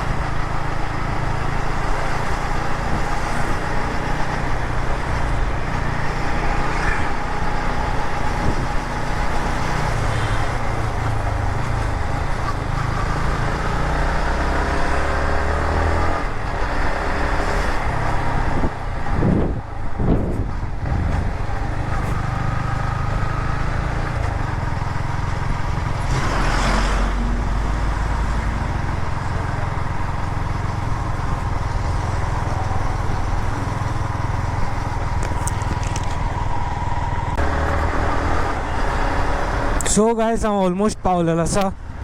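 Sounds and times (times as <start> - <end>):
motorcycle engine: 0.0 - 40.0
wind and road noise: 0.0 - 42.0.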